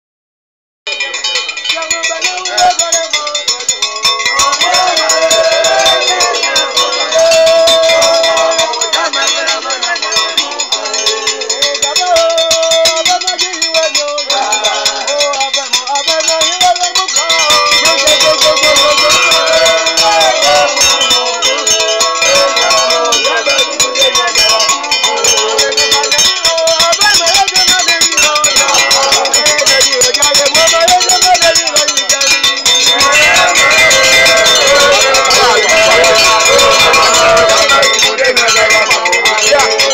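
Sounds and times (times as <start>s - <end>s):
metal bells clattering: 0.9s - 39.9s
voices singing a chant: 1.0s - 39.9s.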